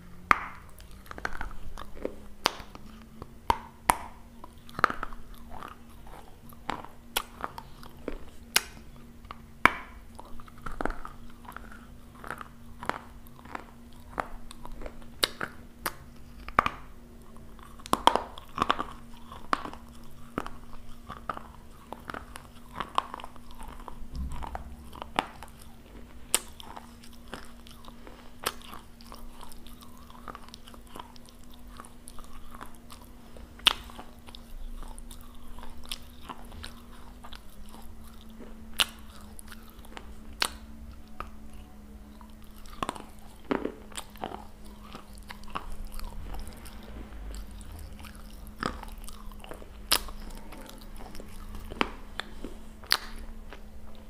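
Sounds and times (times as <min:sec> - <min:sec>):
crunching clay between teeth: 0:00.0 - 0:54.0.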